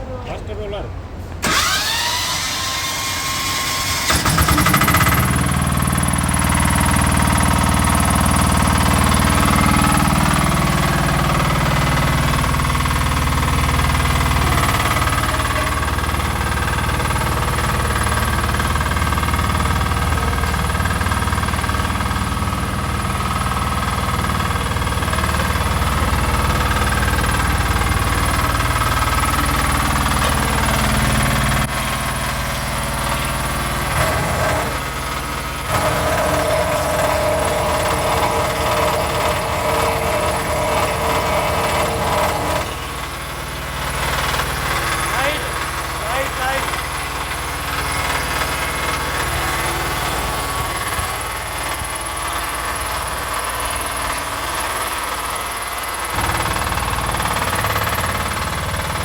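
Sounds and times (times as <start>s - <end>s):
road roller engine running: 0.0s - 59.0s.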